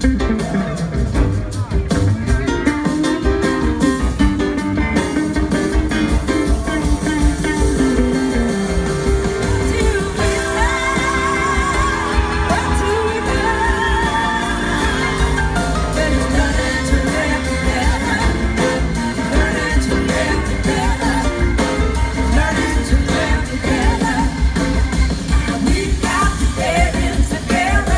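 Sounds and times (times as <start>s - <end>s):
bass and drums: 0.0s - 27.9s
wavering lead melody: 2.6s - 26.8s.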